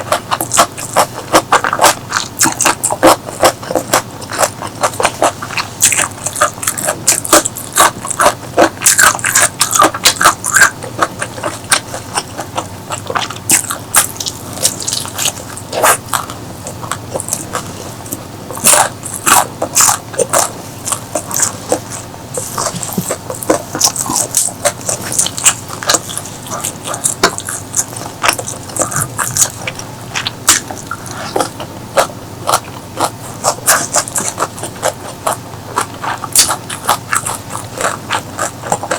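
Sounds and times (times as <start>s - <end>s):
chewing crispy fried chicken: 0.0s - 38.9s.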